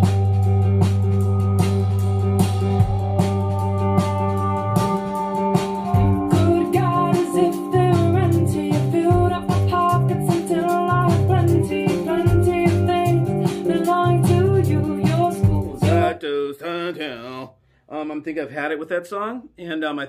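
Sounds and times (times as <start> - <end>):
song with singer and guitar: 0.0 - 16.2.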